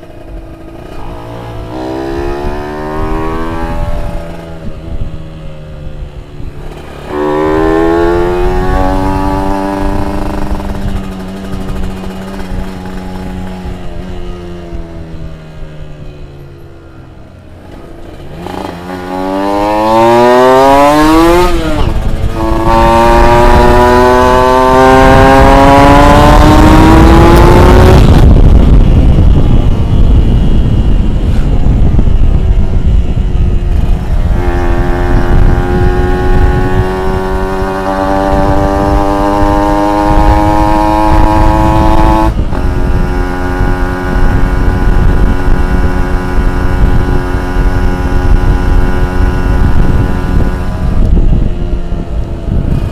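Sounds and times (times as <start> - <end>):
two-stroke engine at full throttle: 0.0 - 16.0, 17.3 - 52.9.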